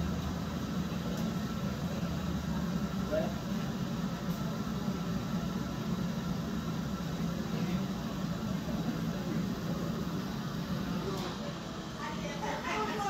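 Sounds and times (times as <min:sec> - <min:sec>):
gas furnace burners rumbling: 0:00.0 - 0:13.0.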